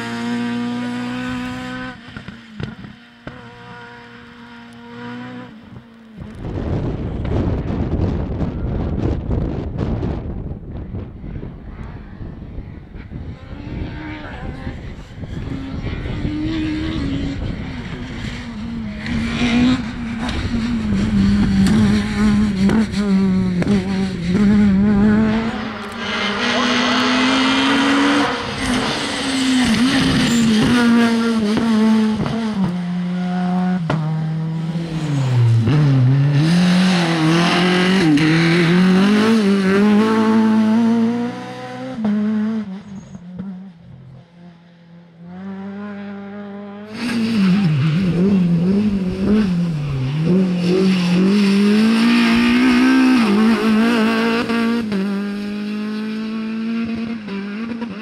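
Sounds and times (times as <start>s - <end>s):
rally car engine revving: 0.0s - 10.4s, 11.2s - 58.0s.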